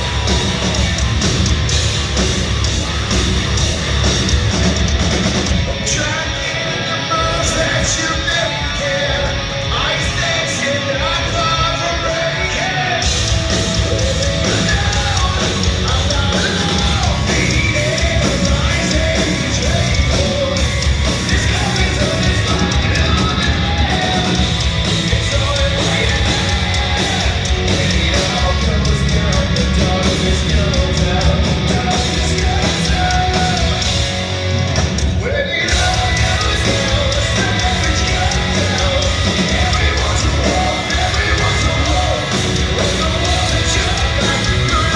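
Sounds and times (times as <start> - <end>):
bass: 0.0 - 44.9
distorted electric guitars: 0.0 - 44.9
drums: 0.0 - 44.9.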